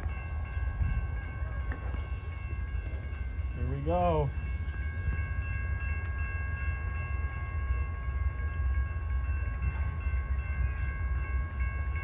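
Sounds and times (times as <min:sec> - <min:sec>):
passenger train rumbling past: 0:00.0 - 0:12.0.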